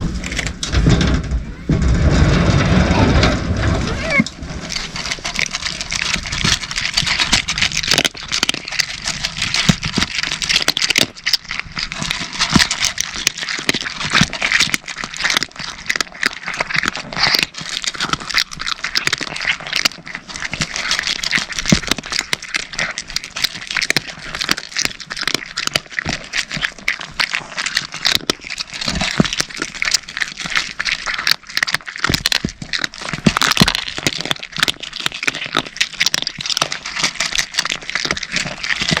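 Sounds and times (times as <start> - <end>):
cats crunching dry food: 0.0 - 39.0.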